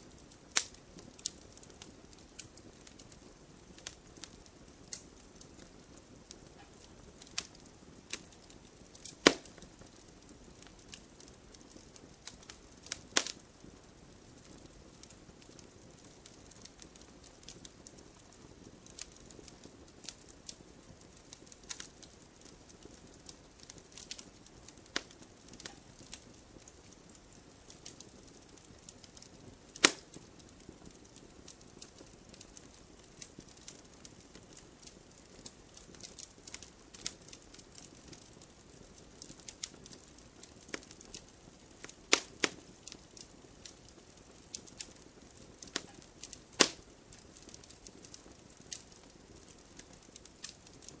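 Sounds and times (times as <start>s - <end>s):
bonfire crackling and popping: 0.0s - 51.0s.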